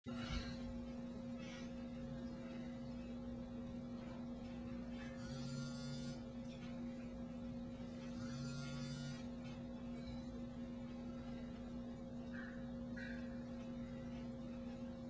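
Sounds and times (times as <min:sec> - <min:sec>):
electrical mains hum: 0:00.1 - 0:15.0.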